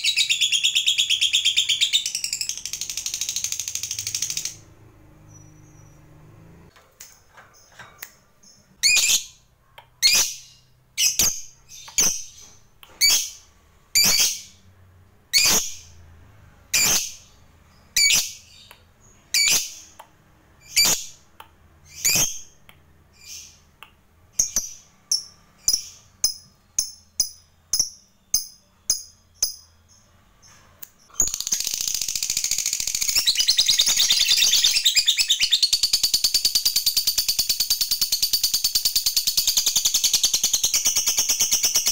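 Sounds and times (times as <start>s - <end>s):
lovebird chirping and chattering: 0.0s - 6.1s, 8.4s - 14.7s, 15.3s - 16.0s, 16.7s - 41.9s.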